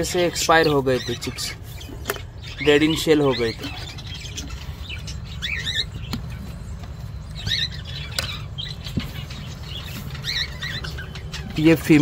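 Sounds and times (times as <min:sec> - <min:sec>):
cockatiel chicks squeaky chirps: 0:00.0 - 0:12.0.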